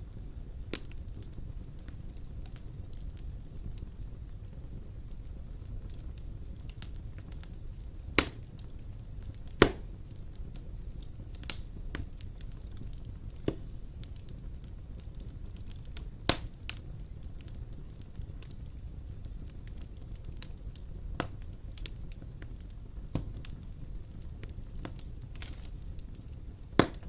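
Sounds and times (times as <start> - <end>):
fire popping: 0.0 - 27.0
wood fire crackling: 0.0 - 27.0.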